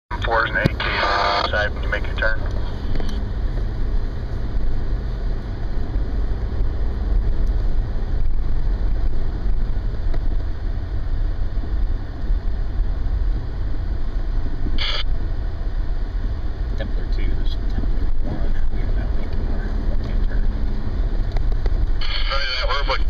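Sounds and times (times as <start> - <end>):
truck engine and road noise: 0.1 - 23.0.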